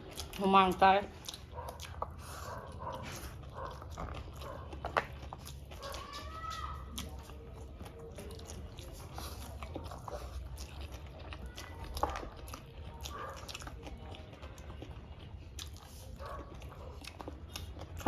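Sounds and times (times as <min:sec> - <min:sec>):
biting and chewing food: 0:00.0 - 0:18.0.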